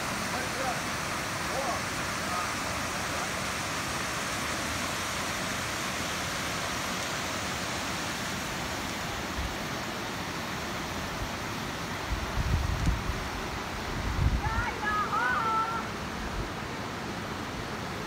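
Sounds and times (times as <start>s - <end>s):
stream cascading over rocks: 0.0s - 18.0s.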